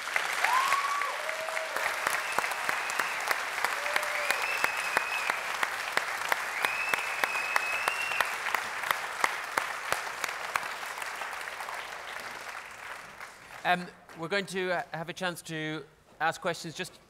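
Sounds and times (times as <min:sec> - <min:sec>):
large audience applauding: 0:00.0 - 0:14.2.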